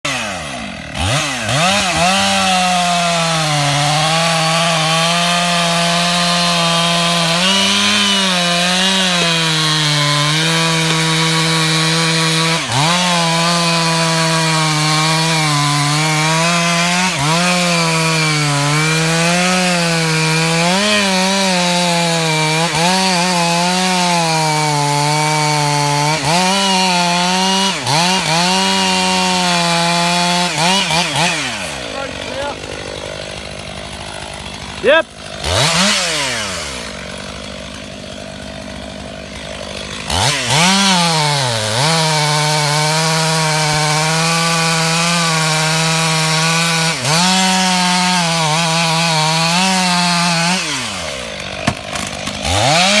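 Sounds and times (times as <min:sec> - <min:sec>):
chainsaw cutting wood: 0:00.0 - 0:53.0
sharp wood cracks: 0:00.1 - 0:53.0.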